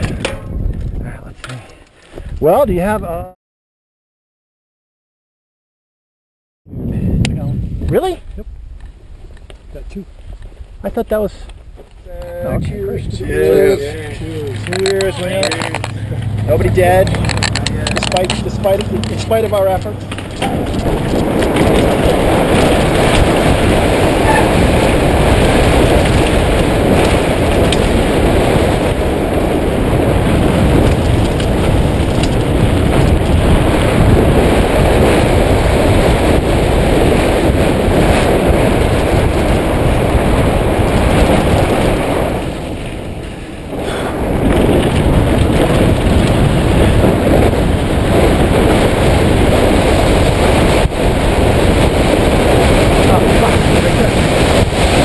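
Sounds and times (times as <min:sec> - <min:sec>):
bike tyres and rattling on dirt: 0:00.0 - 0:03.0, 0:06.8 - 0:55.0
wind rushing on microphone: 0:00.0 - 0:03.4, 0:06.7 - 0:55.0.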